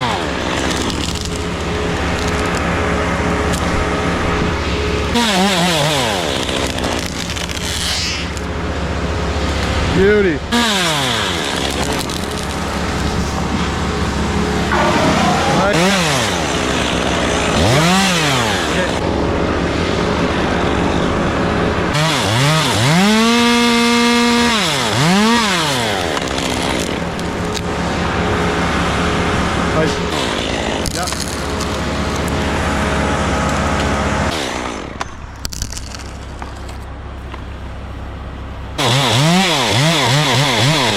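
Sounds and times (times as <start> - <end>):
chainsaw idling and revving: 0.0 - 35.0, 38.8 - 40.9.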